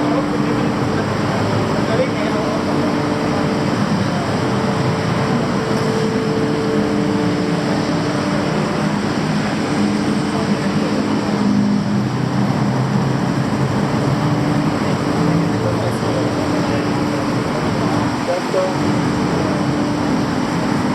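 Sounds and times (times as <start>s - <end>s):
nearby engines humming: 0.0s - 20.9s
street traffic noise: 0.0s - 20.9s.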